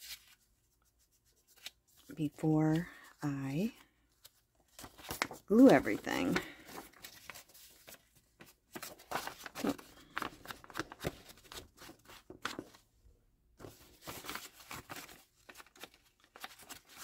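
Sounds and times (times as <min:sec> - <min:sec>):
paper rustling and crinkling: 0:00.0 - 0:12.9, 0:13.6 - 0:17.0.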